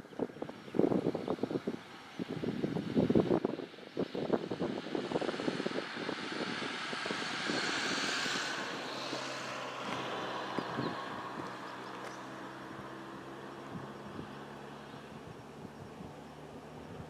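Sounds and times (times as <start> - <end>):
wind buffeting microphone: 0.0 - 17.0
passing engine rushing: 0.8 - 17.0.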